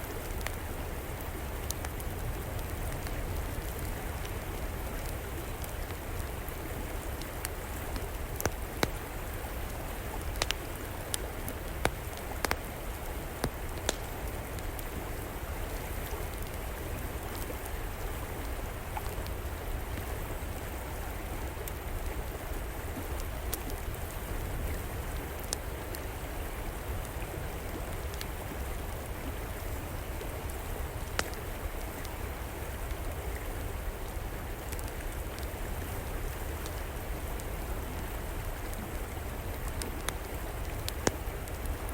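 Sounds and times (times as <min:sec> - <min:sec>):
river water flowing: 0:00.0 - 0:41.9
wood fire crackling and popping: 0:00.1 - 0:20.1, 0:23.0 - 0:26.2, 0:27.0 - 0:33.2, 0:34.0 - 0:37.6, 0:38.2 - 0:41.9.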